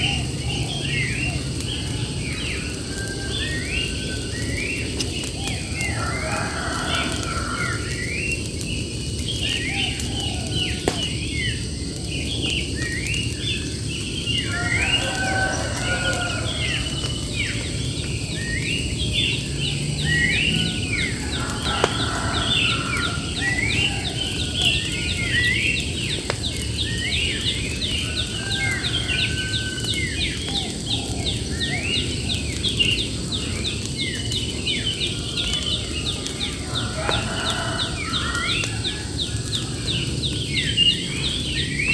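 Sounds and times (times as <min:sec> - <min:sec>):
songbirds chirping and whistling: 0:00.0 - 0:41.9.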